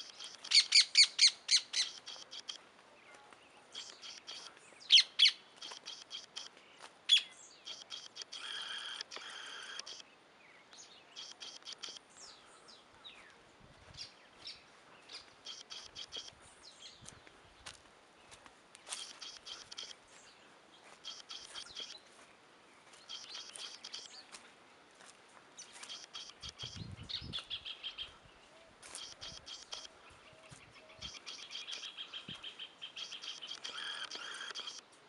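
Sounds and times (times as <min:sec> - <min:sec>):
songbird chattering song: 0:00.0 - 0:24.5, 0:25.6 - 0:35.0.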